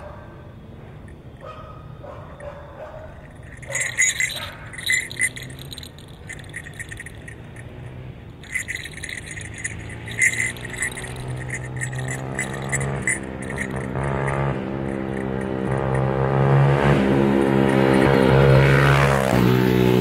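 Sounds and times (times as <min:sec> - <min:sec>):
small bells jingling: 0:02.3 - 0:20.0.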